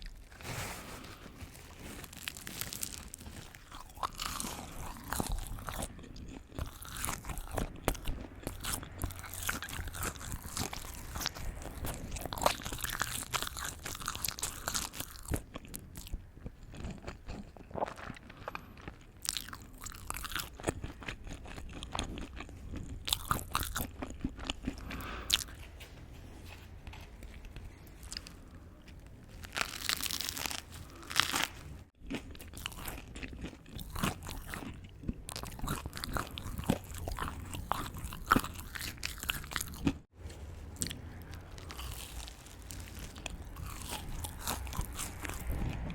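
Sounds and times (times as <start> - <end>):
crunchy eating and chewing: 0.0 - 25.8, 26.4 - 45.9.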